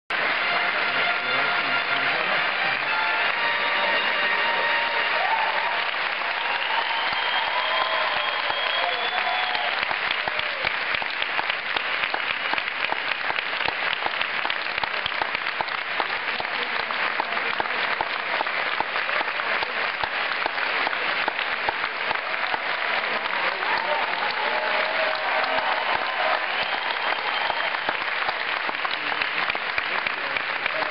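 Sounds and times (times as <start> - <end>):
audience applauding: 0.1 - 30.9.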